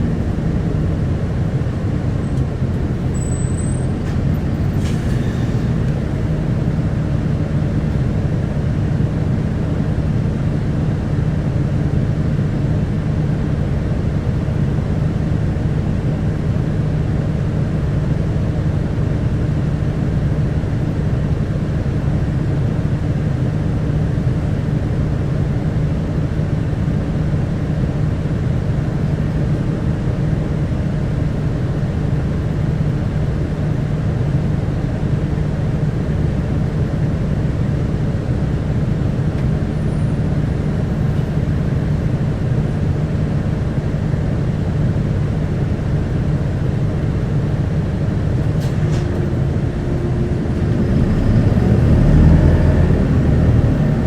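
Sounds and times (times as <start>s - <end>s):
road noise: 0.0s - 21.4s, 24.5s - 54.0s
bus diesel engine running: 0.0s - 54.0s.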